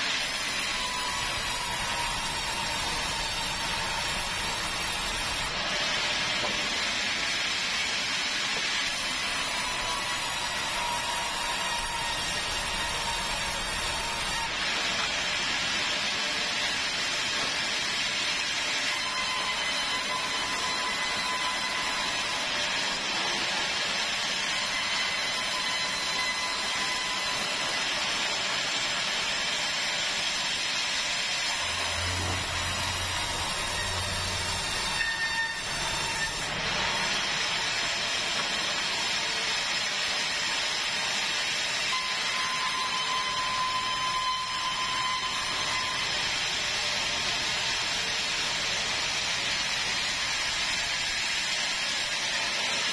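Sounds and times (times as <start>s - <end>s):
saw cutting log: 0.0s - 52.9s.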